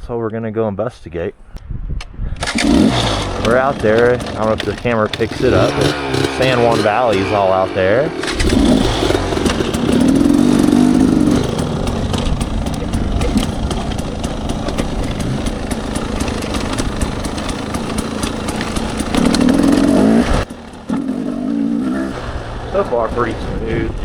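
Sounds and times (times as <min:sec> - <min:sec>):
dirt bike engine running: 0:02.3 - 0:24.0.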